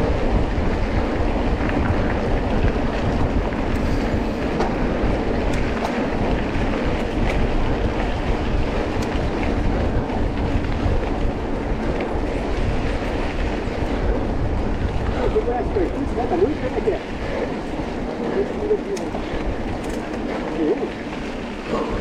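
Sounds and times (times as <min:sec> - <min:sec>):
vehicle rumbling on off-road trail: 0:00.0 - 0:22.0.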